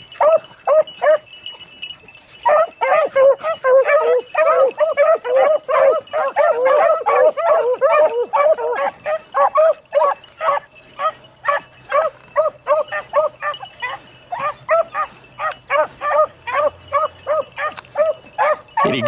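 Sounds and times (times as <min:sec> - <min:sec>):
dogs baying: 0:00.0 - 0:19.0.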